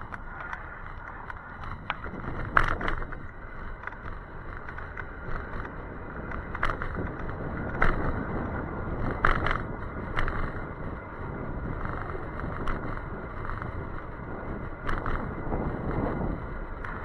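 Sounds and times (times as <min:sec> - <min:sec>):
wind and wet road rushing: 0:00.0 - 0:17.0.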